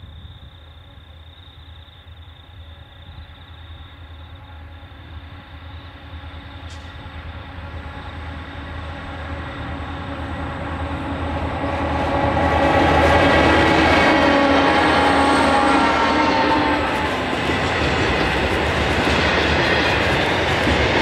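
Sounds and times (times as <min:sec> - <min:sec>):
locomotive engines droning: 0:00.0 - 0:21.0.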